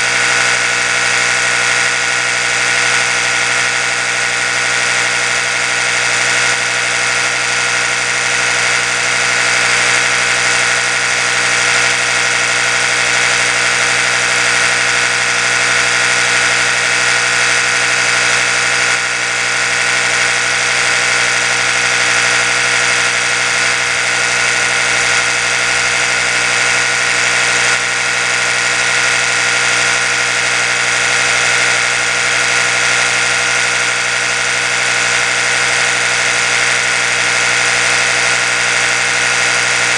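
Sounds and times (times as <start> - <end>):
electric toothbrush buzzing: 0.0 - 39.9.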